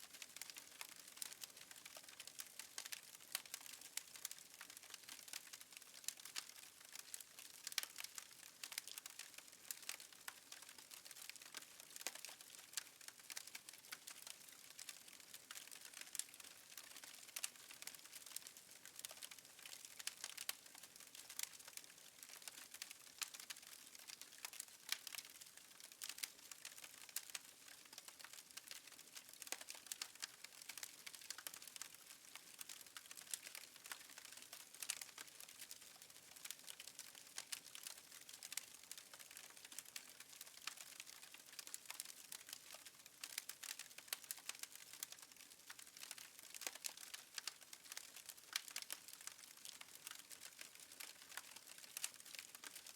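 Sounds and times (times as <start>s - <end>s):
fireplace fire crackling: 0.2s - 52.9s.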